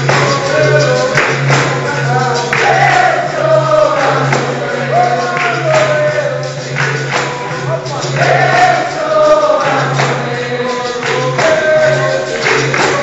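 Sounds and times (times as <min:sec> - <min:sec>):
chorus of voices singing: 0:00.0 - 0:13.0
pandeiro and berimbau: 0:00.0 - 0:13.0
percussion strikes: 0:00.0 - 0:13.0.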